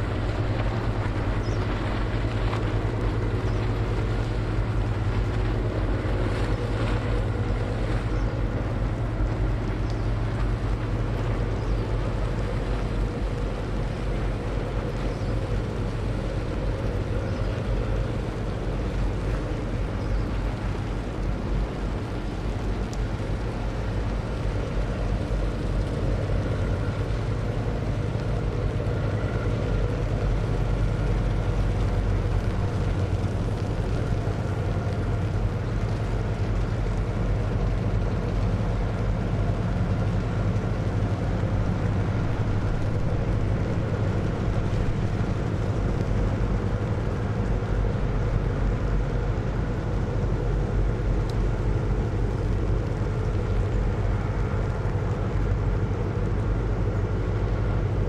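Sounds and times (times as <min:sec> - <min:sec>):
boat diesel engine drone: 0:00.0 - 0:58.0.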